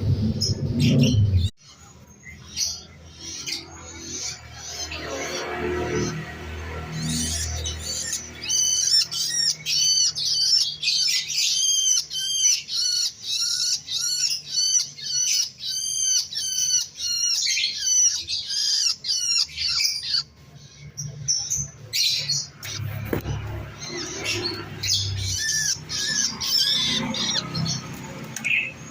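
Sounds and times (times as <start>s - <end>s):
baby bird squawking: 2.4s - 20.4s, 21.4s - 28.9s.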